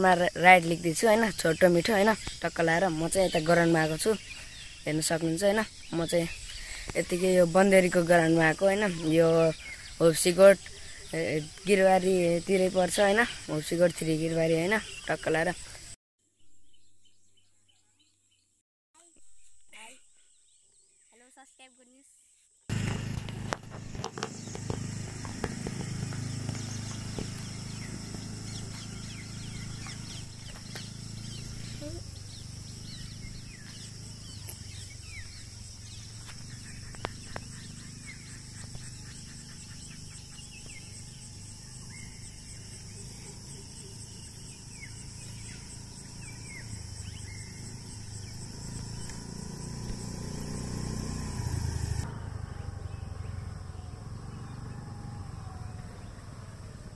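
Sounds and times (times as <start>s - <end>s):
motor scooter engine: 0.0s - 15.0s, 22.7s - 56.9s
insect chorus: 0.0s - 18.4s, 19.0s - 56.9s
bird chirps: 0.0s - 56.8s.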